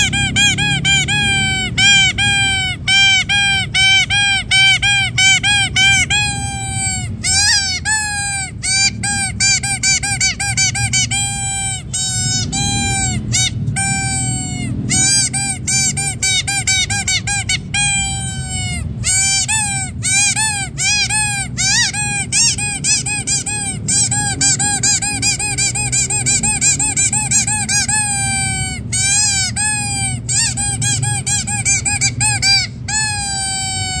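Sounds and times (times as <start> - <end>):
rubber duck squeaking: 0.0 - 34.0.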